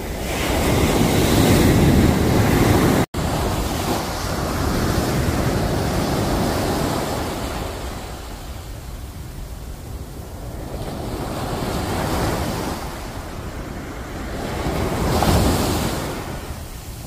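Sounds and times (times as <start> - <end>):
sea waves washing up a beach: 0.0 - 17.0.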